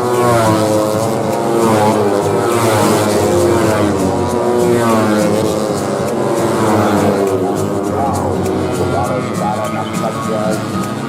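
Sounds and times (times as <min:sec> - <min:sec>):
race motorcycles at high revs: 0:00.0 - 0:11.0.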